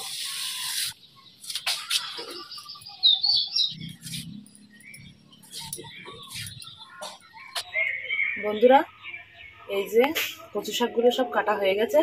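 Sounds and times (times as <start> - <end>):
high chirps: 0.0 - 9.7.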